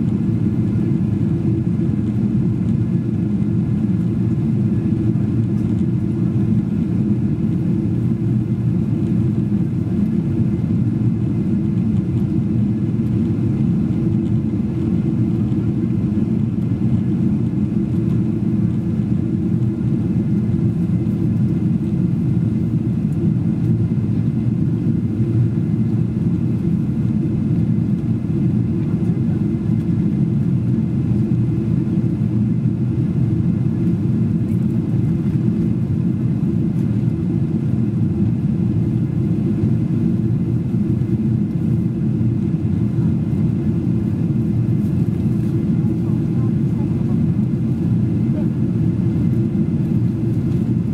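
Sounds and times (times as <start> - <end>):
airliner cabin jet roar: 0.0 - 50.9.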